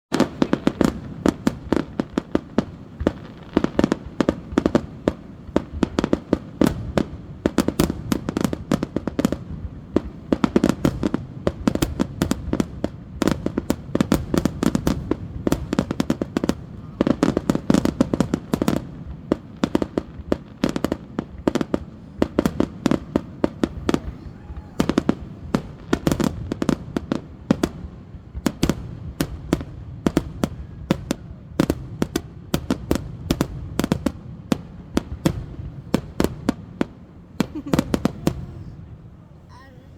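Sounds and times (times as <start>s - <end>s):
fireworks cracking and banging: 0.1s - 39.9s.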